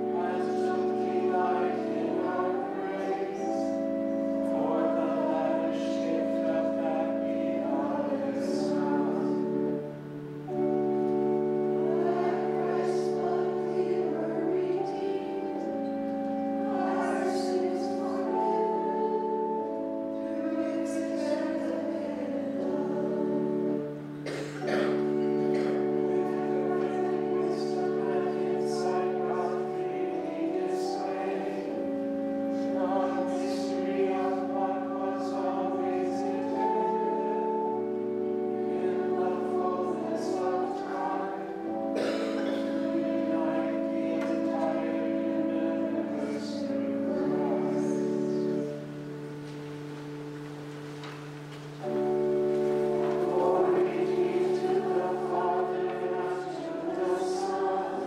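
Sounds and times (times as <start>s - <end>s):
congregation singing: 0.0s - 58.0s
organ chords: 0.0s - 58.0s.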